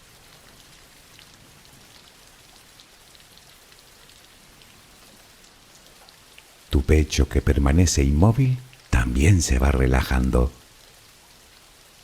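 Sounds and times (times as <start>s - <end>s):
soft rain falling: 0.0s - 12.0s.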